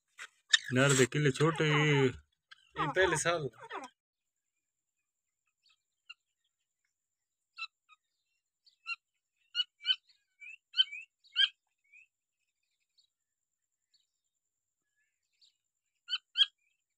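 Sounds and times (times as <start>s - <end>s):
francolins chirping: 0.0s - 4.0s, 5.0s - 13.2s, 13.8s - 16.9s.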